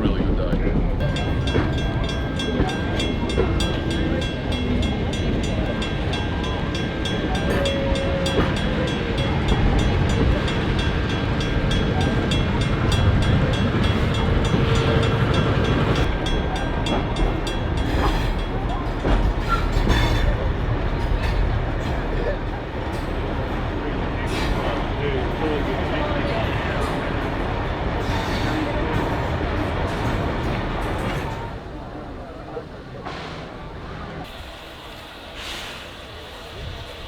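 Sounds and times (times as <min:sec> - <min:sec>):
train rumbling on rails: 0:00.0 - 0:37.0.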